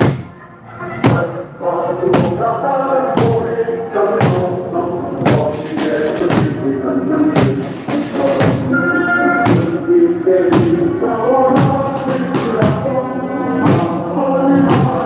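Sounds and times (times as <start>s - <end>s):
marching song with singing: 0.0s - 15.0s.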